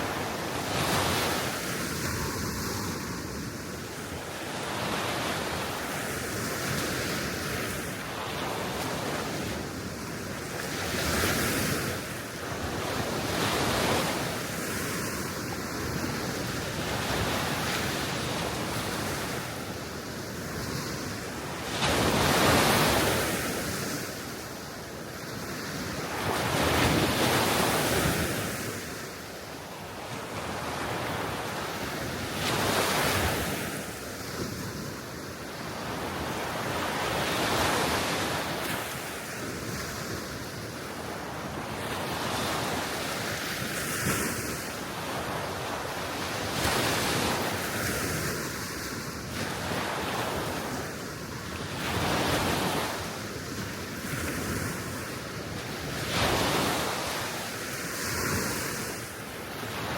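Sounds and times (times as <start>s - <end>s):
soft waves washing ashore: 0.0s - 59.9s.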